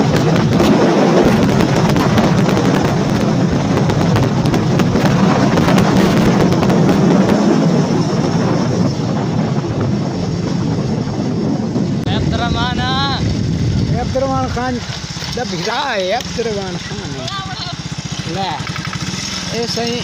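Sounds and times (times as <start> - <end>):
vehicle engine running: 0.0 - 20.0
wind buffeting microphone: 0.0 - 20.0.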